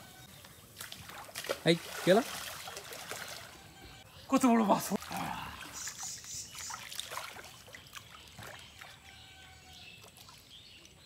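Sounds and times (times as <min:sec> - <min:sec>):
water trickling and splashing: 0:00.4 - 0:11.0.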